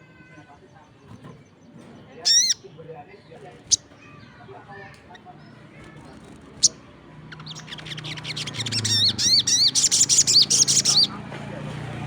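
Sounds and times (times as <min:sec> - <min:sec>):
songbird chirping: 0:00.3 - 0:11.2.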